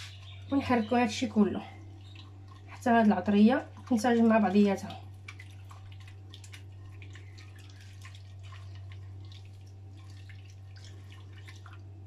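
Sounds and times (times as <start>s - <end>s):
hand stirring liquid in bowl: 0.0s - 12.0s.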